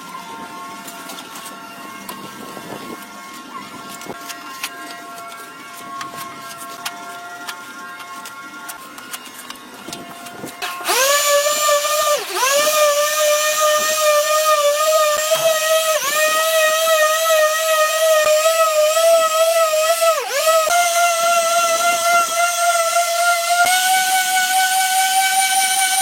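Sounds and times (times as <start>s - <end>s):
power tool motor whining: 0.0s - 26.0s.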